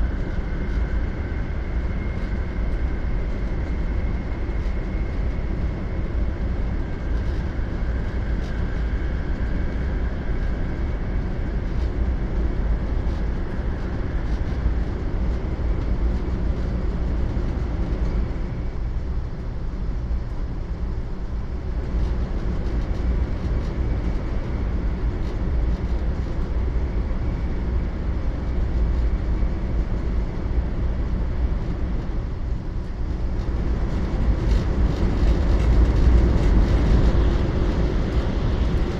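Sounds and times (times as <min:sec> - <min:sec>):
faint high whine: 0:00.0 - 0:38.9
train running rumble: 0:00.0 - 0:38.9.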